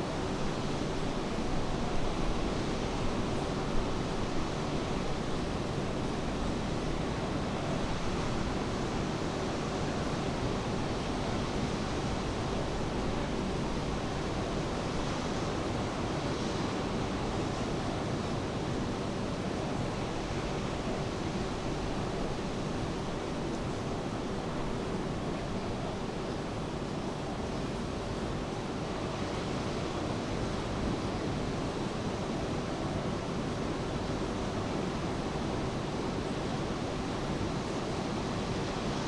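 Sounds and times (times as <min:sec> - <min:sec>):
rain: 0:00.0 - 0:39.0.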